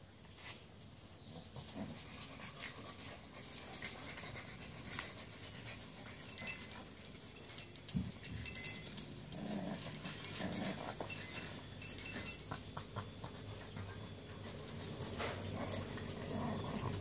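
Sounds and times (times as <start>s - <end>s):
soft dog sounds: 1.2s - 17.0s.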